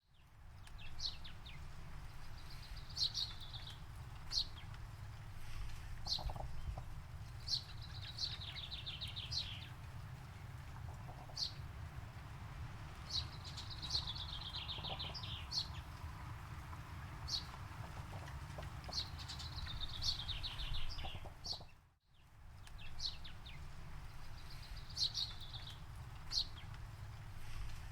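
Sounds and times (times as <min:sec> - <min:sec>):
songbirds chirping and trilling: 0:00.2 - 0:27.9.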